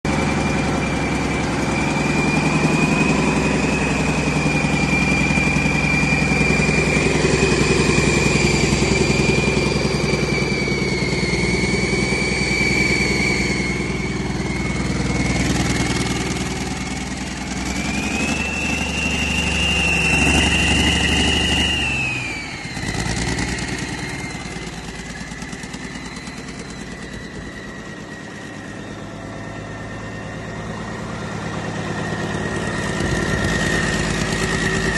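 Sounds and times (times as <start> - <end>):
diesel engine whining: 0.0 - 34.9.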